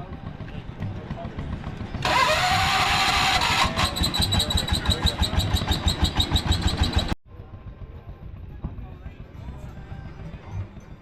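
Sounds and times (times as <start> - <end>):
engine running beat: 0.0 - 11.0.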